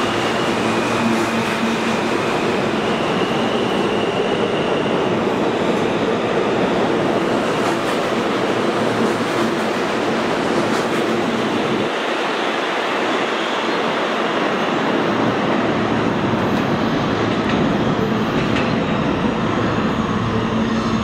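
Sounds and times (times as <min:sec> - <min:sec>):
subway train wheels on rail: 0:00.0 - 0:21.0.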